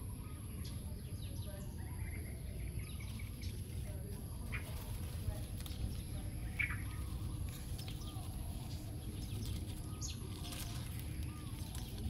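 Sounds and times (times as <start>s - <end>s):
faint bird chirps: 0.0s - 12.0s
steady low rumble: 0.0s - 12.0s.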